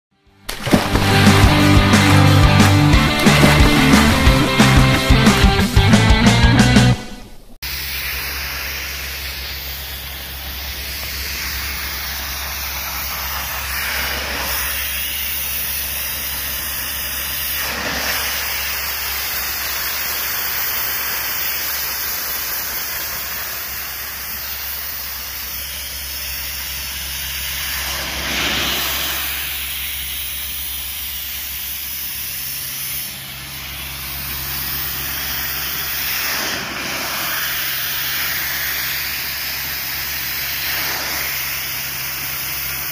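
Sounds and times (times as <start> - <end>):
pressure washer spray hissing: 0.5 - 5.7, 7.6 - 42.9
steady low hum: 0.5 - 6.2, 7.0 - 18.0, 23.5 - 42.9.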